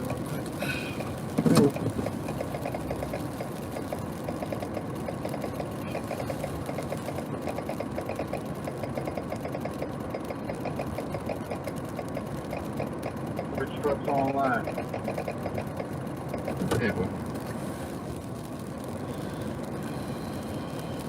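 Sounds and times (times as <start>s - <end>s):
engine idling with ticking clatter: 0.0s - 21.0s.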